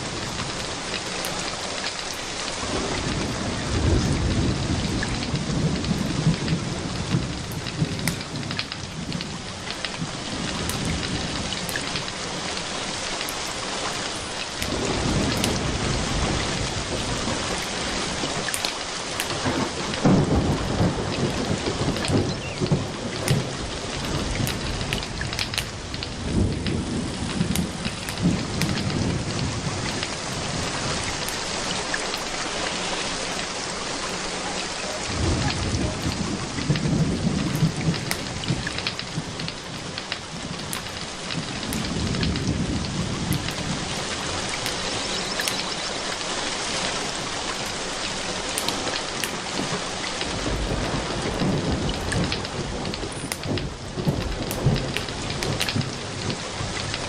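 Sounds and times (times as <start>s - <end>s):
rain pouring and pattering: 0.0s - 57.0s
rolling thunder: 2.5s - 33.6s, 34.5s - 45.9s, 47.0s - 57.0s.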